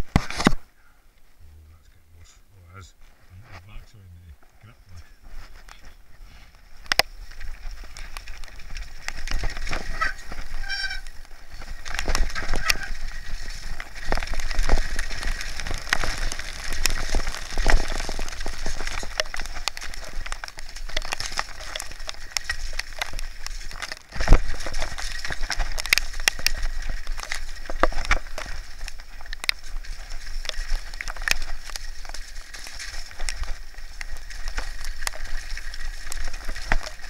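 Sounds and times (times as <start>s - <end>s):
bike rattling over rocks: 4.6s - 37.0s.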